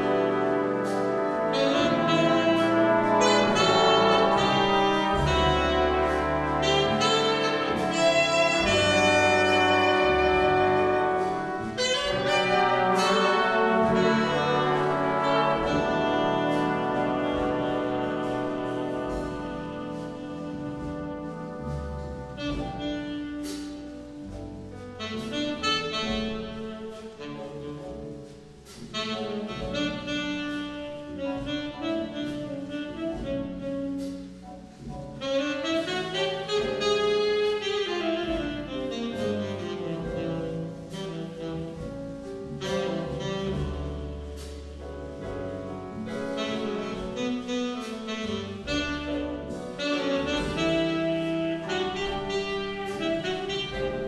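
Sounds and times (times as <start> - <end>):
jazz big band playing: 0.0 - 54.0
saxophone melody: 1.4 - 54.0.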